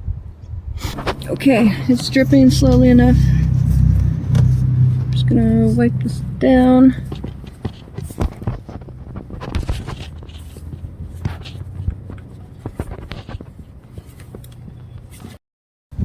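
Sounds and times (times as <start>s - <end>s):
low steady background rumble: 0.8s - 15.1s.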